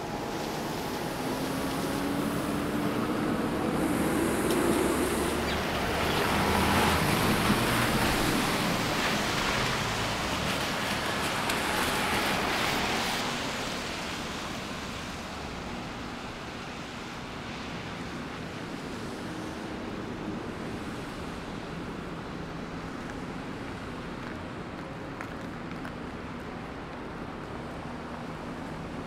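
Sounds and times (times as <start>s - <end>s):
tyre noise of passing vehicles: 0.0s - 29.0s.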